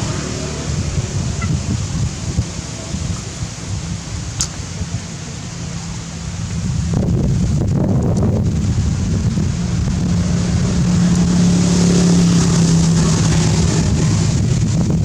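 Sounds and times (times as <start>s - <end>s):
low engine-like hum: 0.0s - 15.0s
wind buffeting microphone: 0.0s - 15.0s.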